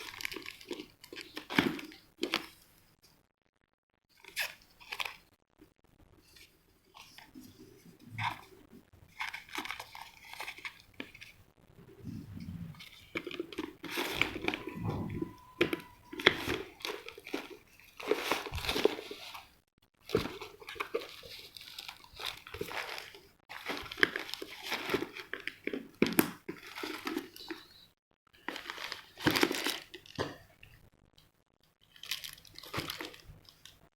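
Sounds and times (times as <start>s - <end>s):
plastic packaging crinkling: 0.0s - 2.8s, 4.1s - 5.3s, 6.2s - 27.7s, 28.4s - 30.7s, 31.8s - 33.9s.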